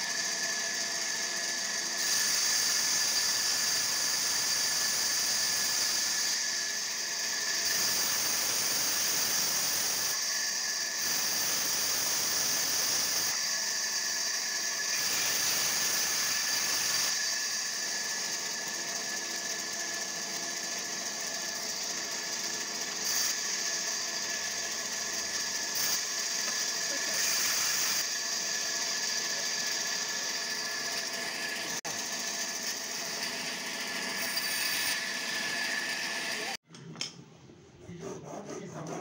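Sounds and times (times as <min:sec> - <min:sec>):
power tool motor whining: 0:00.0 - 0:36.6.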